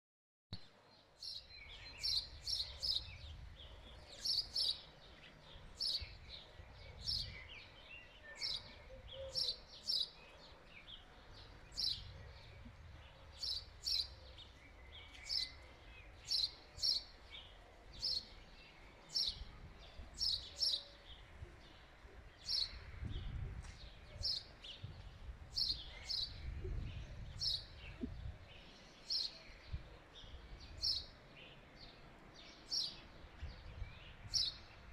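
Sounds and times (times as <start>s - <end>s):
small songbird chirping: 0.6s - 34.9s.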